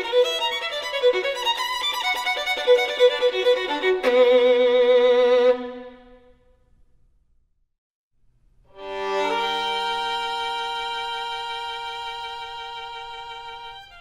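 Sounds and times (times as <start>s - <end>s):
slow violin music: 0.0s - 6.3s, 8.7s - 14.0s.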